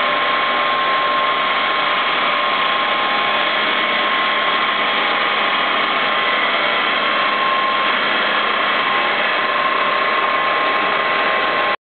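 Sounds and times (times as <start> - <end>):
machinery whirring and whining: 0.0 - 11.8.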